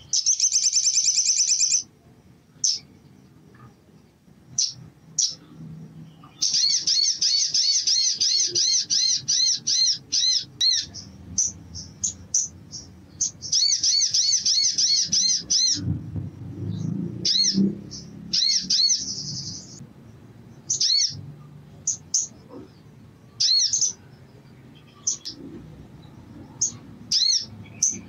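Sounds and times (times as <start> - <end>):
sunbird singing: 0.0 - 28.0.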